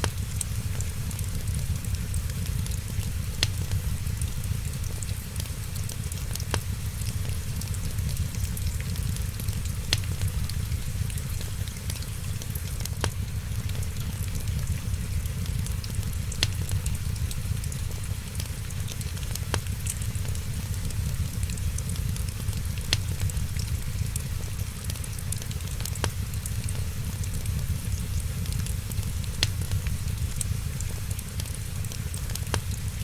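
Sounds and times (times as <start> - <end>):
sharp pops of fire: 0.0 - 33.0
wood fire crackling: 0.0 - 33.0.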